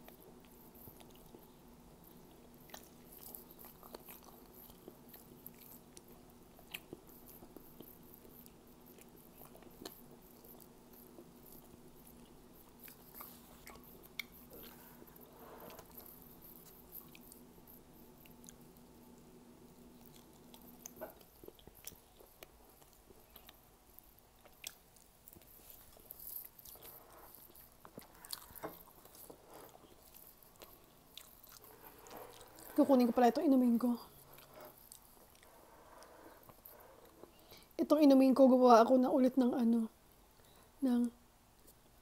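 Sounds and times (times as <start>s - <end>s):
person chewing and eating: 0.0s - 37.8s
faint low hum: 0.0s - 42.0s.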